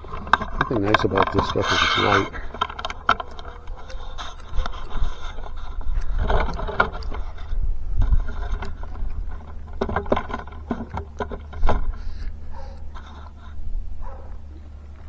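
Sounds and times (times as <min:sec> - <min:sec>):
trailer frame clunking and scraping: 0:00.0 - 0:15.0.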